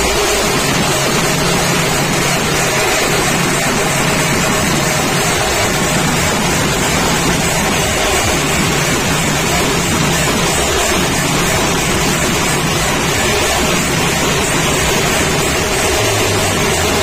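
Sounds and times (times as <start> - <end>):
gongs and cymbals with drums: 0.0 - 17.0.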